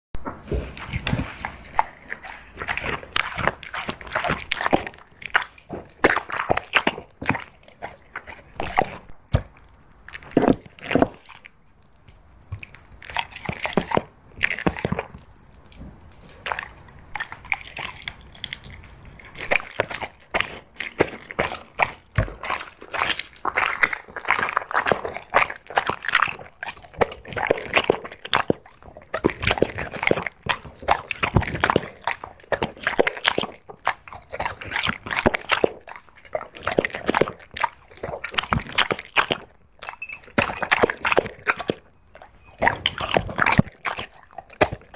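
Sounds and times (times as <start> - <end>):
dog chewing: 0.4 - 44.9.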